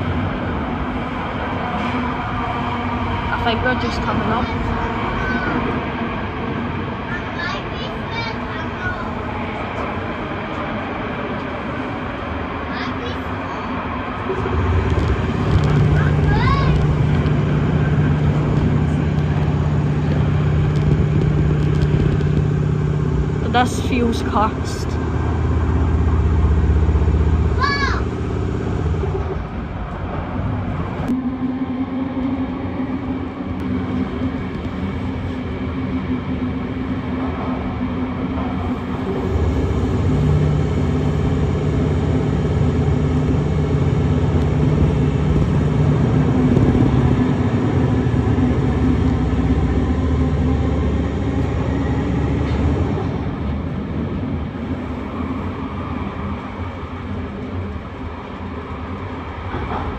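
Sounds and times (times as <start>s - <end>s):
train rail running noise: 0.0s - 59.9s.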